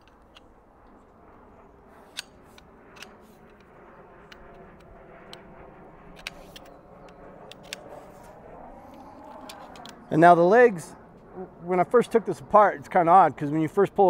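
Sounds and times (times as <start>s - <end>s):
faint steady rumble: 0.0s - 14.0s.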